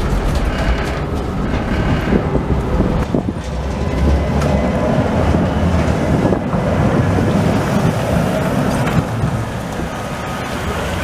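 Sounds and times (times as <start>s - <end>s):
tram wheels rumbling on track: 0.0s - 11.0s.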